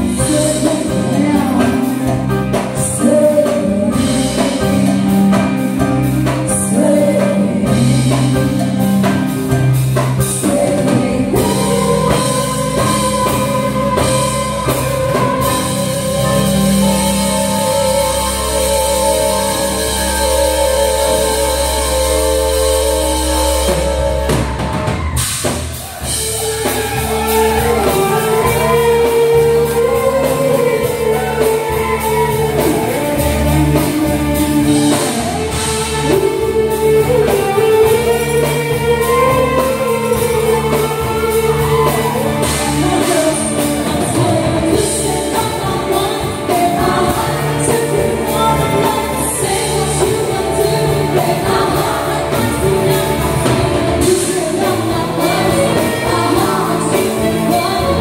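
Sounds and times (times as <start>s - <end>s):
drum kit: 0.0s - 58.0s
person singing: 0.0s - 58.0s
rock band playing: 0.0s - 58.0s.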